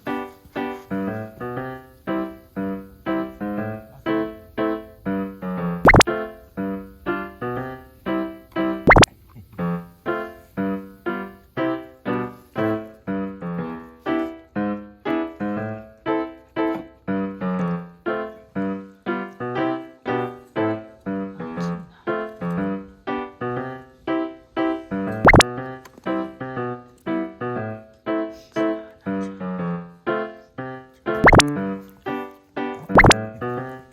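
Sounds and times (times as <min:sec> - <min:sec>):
light piano tune: 0:00.0 - 0:33.9.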